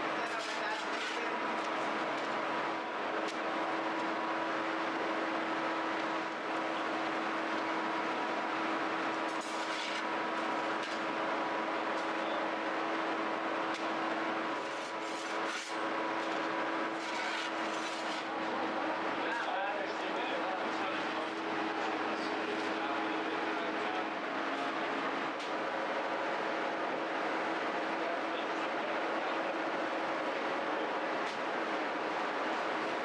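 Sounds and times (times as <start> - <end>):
machinery humming: 0.0 - 33.0.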